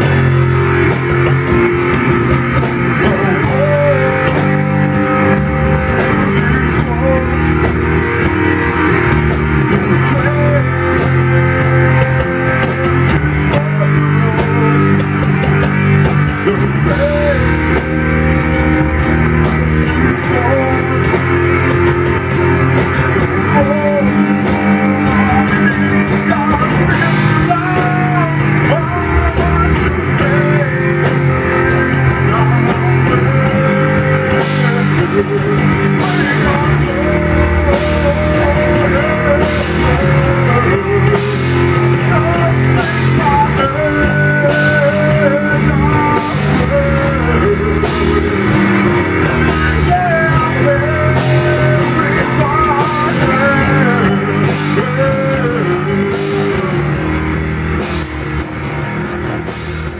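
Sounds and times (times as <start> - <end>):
bass guitar: 0.0 - 59.9
drums: 0.0 - 59.9
electric guitar: 0.0 - 59.9.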